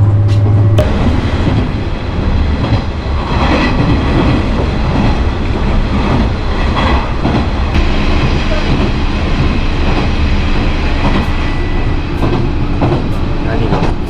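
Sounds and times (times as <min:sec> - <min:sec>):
steady low hum: 0:00.0 - 0:14.0
train wheels rumbling and rattling: 0:00.0 - 0:14.0.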